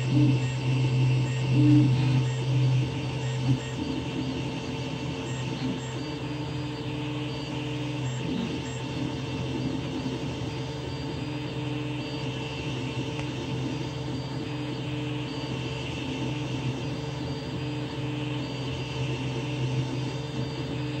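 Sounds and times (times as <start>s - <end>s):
cooling fans whirring: 0.0s - 21.0s.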